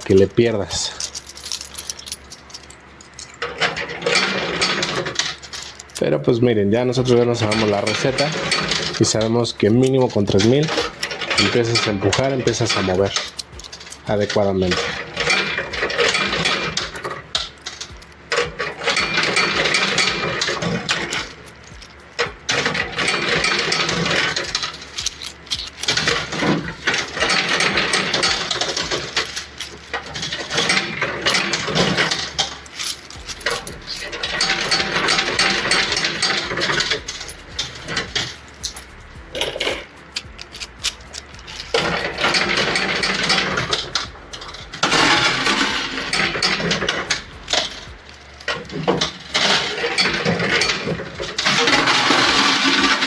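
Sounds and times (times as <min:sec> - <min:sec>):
coins clattering in machine: 0:00.0 - 0:53.0.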